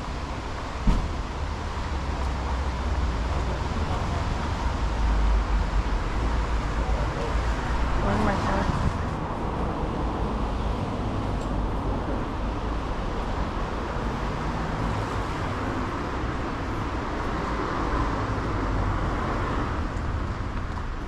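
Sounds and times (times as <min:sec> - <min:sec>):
passing cars rumbling: 0:00.0 - 0:21.0.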